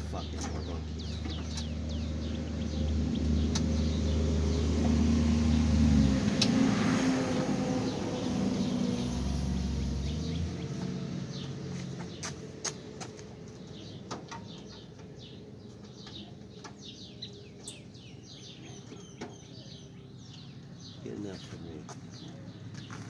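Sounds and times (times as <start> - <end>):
vehicle running: 0.0 - 18.5
small birds chirping: 0.0 - 23.0.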